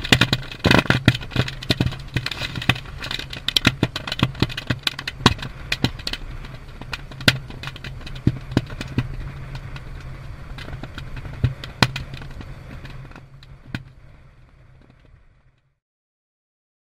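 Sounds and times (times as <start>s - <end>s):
low rumble: 0.0s - 15.8s.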